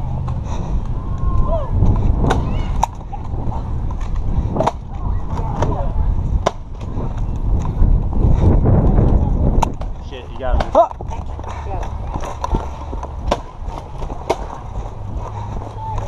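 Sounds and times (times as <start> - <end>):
camera jostling rumble: 0.0 - 16.0.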